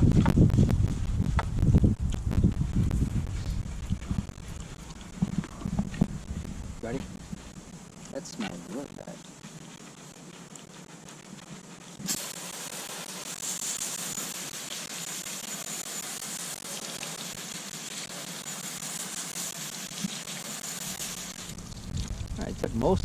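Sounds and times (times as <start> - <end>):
garden hose spraying water: 0.0 - 23.0.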